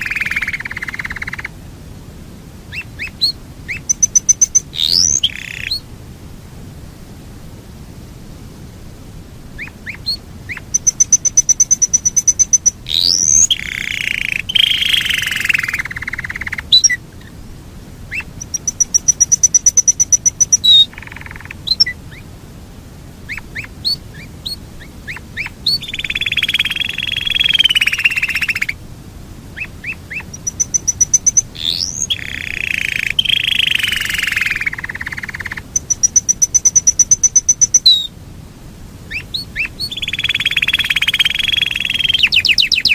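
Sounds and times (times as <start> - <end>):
canary singing trills: 0.0 - 1.5, 2.7 - 5.9, 9.6 - 17.4, 18.1 - 22.3, 23.2 - 28.8, 29.6 - 38.1, 39.1 - 42.9.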